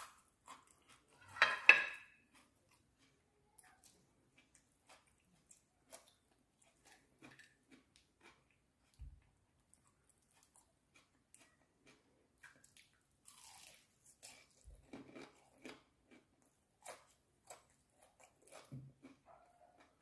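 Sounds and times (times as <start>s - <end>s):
chewing crispy fried chicken: 0.0s - 1.4s, 2.0s - 20.0s.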